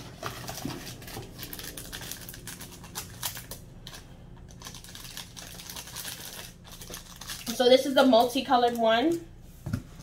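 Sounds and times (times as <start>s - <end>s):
plastic crinkling: 0.0s - 9.2s
plastic packets clicking: 0.0s - 9.2s.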